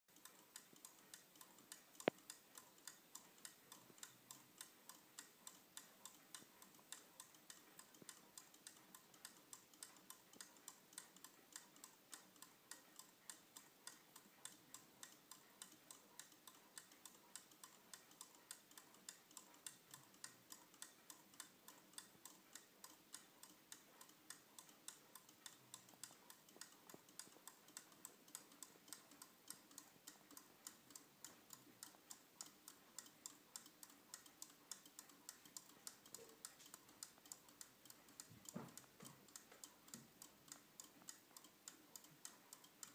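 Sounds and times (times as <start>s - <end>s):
wall clock ticking: 0.1s - 42.9s.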